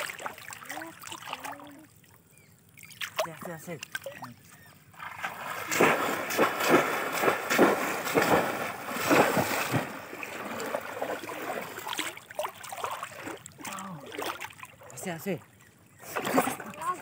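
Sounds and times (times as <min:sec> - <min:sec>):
river water splashing and sloshing: 0:00.0 - 0:17.0.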